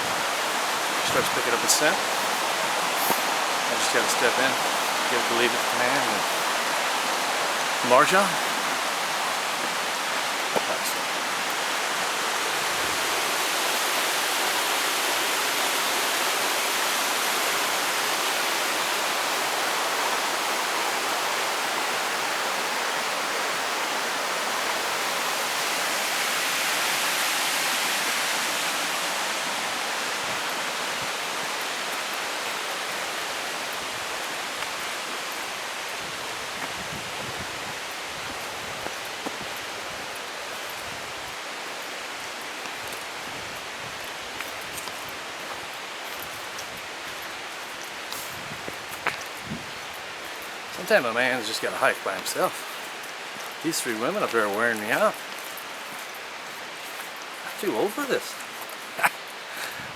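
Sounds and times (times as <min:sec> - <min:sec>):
creek rushing over rocks: 0:00.0 - 0:59.9.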